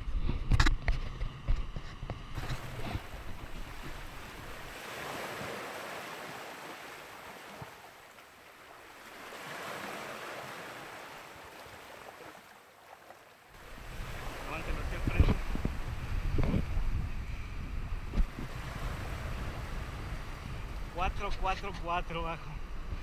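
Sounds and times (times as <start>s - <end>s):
ocean surf washing onto beach: 2.4s - 23.0s.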